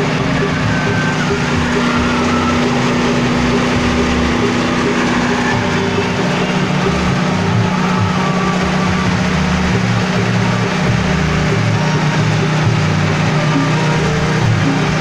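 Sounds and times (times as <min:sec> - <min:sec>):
grinding machine drone: 0:00.0 - 0:15.0.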